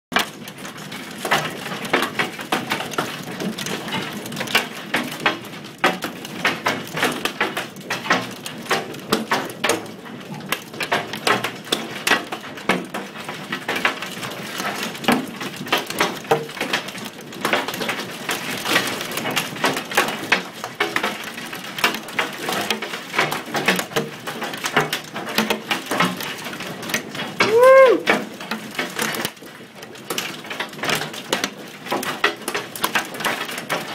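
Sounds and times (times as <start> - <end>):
hailstones pelting hard surfaces: 0.2 - 33.9.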